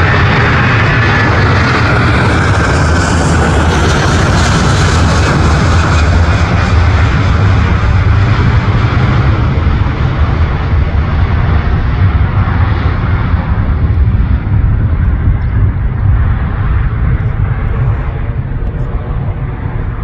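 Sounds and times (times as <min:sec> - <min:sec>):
jet airliner engines roaring: 0:00.0 - 0:20.0.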